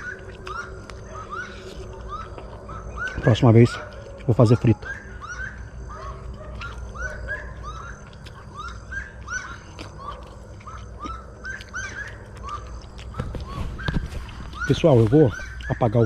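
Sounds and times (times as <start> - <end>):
chirping animal calls: 0.0 - 16.0.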